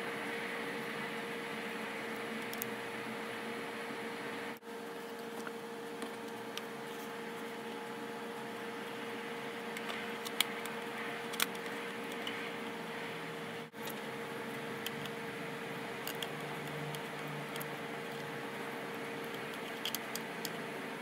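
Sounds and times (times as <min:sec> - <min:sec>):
steady hum and hiss: 0:00.0 - 0:21.0.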